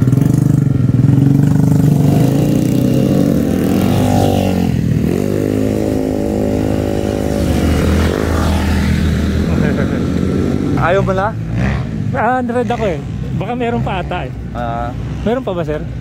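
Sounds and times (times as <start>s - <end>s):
scooter engines pulling away: 0.0s - 15.7s.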